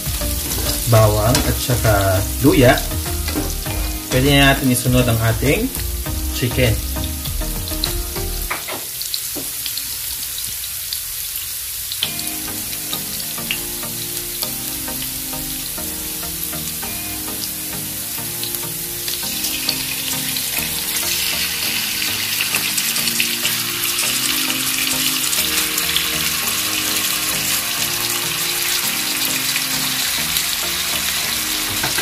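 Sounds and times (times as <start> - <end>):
oil sizzling in a frying pan: 0.0 - 32.0.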